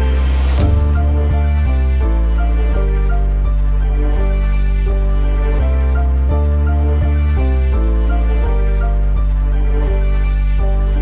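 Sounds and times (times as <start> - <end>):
slow soft instrumental music: 0.0 - 11.0.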